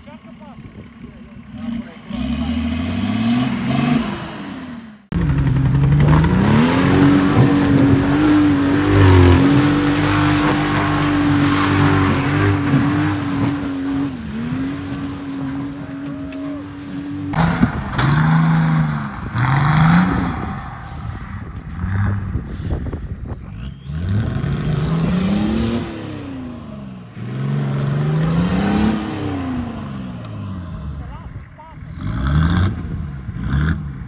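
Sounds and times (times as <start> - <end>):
engine revving: 0.0 - 34.0
tyres churning mud: 1.2 - 31.0.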